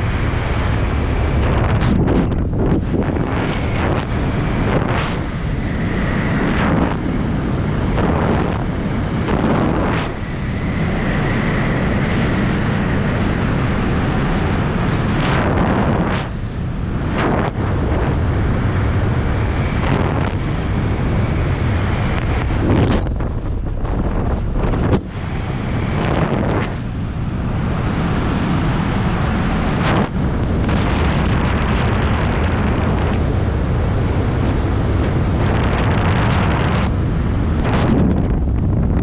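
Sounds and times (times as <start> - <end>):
airflow rushing over microphone: 0.0 - 39.0.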